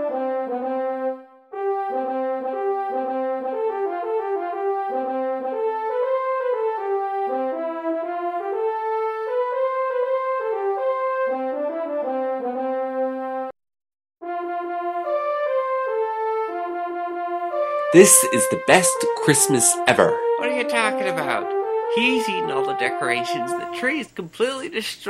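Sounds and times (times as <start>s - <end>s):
brass ensemble playing slow chords: 0.0s - 13.5s, 14.2s - 24.0s.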